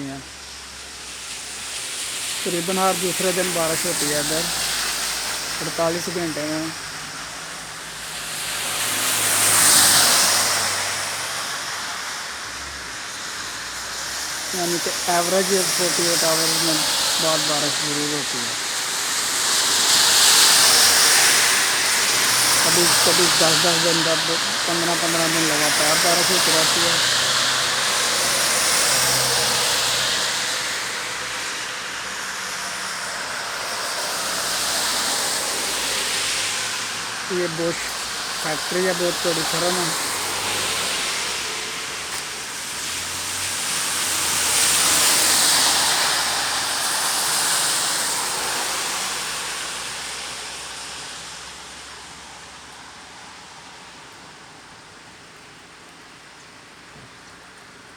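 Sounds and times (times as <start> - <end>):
car tyres hissing on wet road: 0.0 - 57.9
rain hissing: 0.0 - 57.9.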